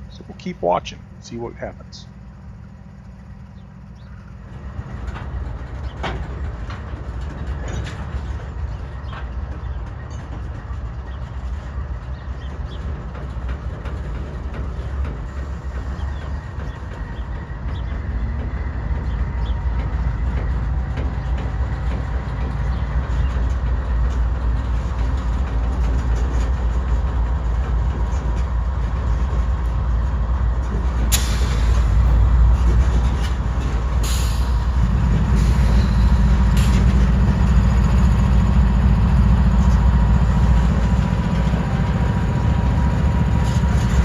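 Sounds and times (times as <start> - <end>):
freight train rumbling on rails: 0.0 - 44.0.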